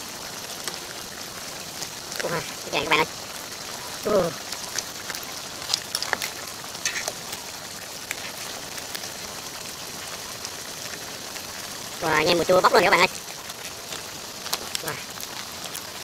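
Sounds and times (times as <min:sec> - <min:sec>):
food sizzling in hot pan: 0:00.0 - 0:16.0.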